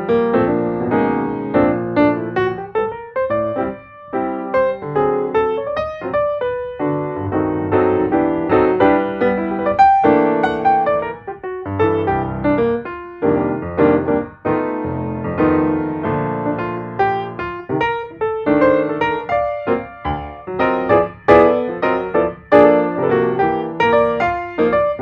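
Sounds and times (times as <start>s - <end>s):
piano melody with chords: 0.0s - 25.0s.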